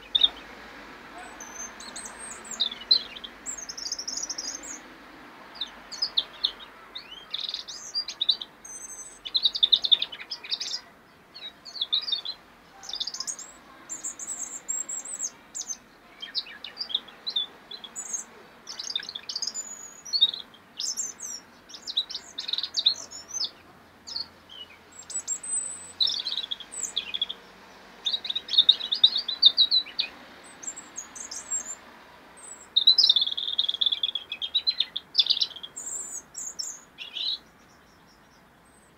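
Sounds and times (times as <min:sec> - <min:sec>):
robin singing: 0:00.0 - 0:38.9.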